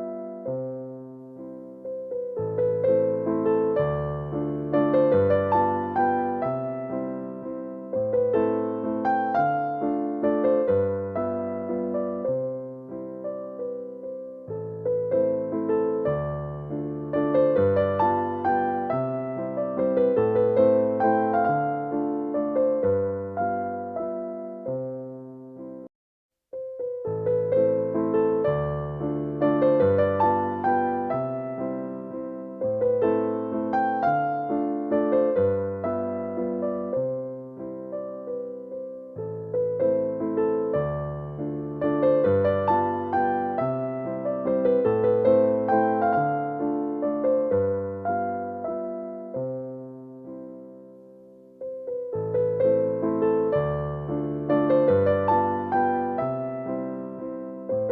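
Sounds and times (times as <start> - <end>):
soft electric piano music: 0.0 - 25.9, 26.5 - 57.9.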